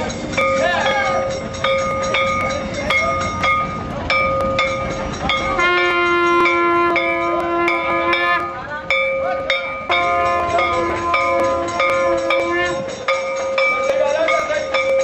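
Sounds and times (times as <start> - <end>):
deeper-ringing bell: 0.0 - 15.0
temple bells struck: 0.0 - 15.0.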